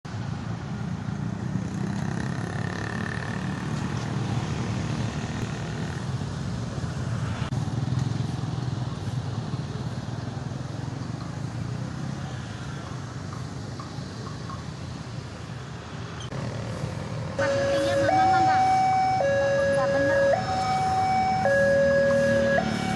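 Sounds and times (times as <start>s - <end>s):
motorcycle and car engines: 0.1s - 22.9s.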